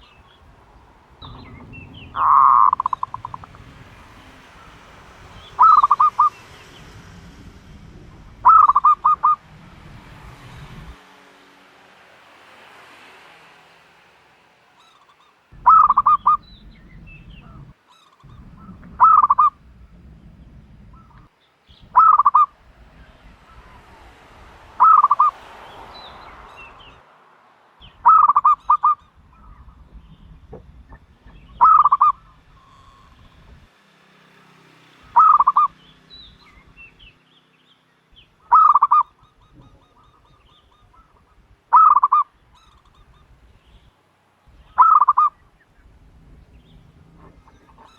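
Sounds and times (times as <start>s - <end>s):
turtle dove calling: 0.0s - 11.0s, 14.8s - 27.0s, 27.8s - 33.7s, 35.1s - 37.2s, 38.2s - 47.9s
faint low rumble: 0.0s - 11.1s, 15.5s - 33.7s, 35.0s - 37.2s, 38.0s - 47.9s.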